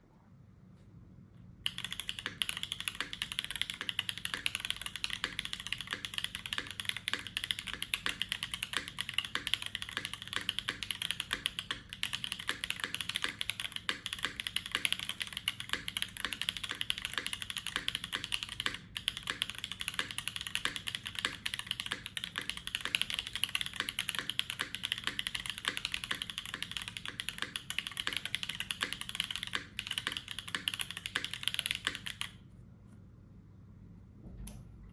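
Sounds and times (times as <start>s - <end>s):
mechanical keyboard typing: 1.7s - 32.4s.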